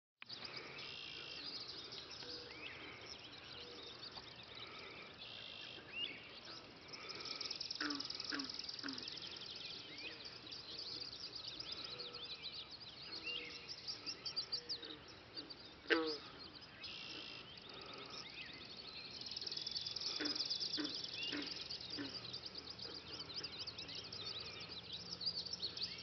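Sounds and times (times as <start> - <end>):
songbirds singing: 0.2 - 26.0.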